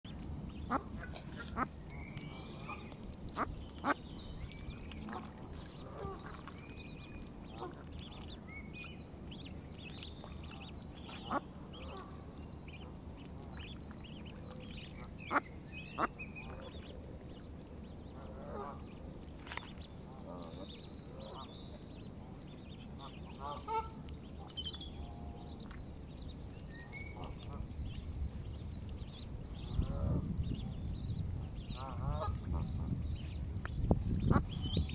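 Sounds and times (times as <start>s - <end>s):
ducklings peeping: 0.1s - 34.9s.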